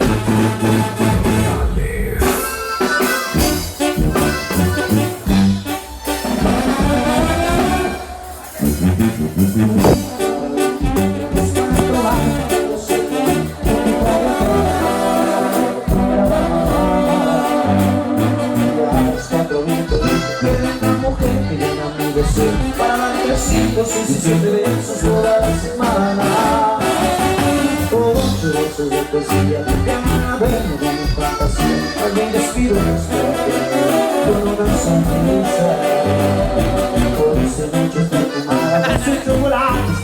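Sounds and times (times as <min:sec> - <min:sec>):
brass band playing: 0:00.0 - 0:40.0
tuba bass line: 0:00.0 - 0:40.0.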